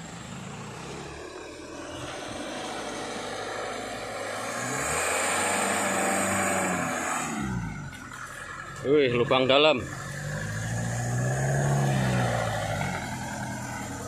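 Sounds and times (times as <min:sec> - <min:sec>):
truck engine labouring: 0:00.0 - 0:14.0.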